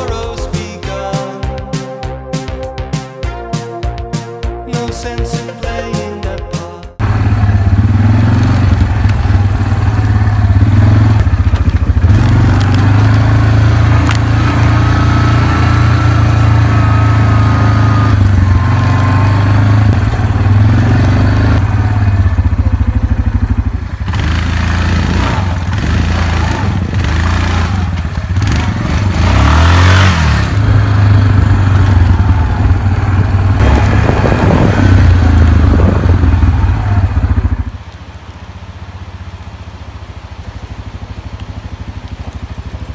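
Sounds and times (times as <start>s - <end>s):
atv engine droning: 0.0s - 42.9s.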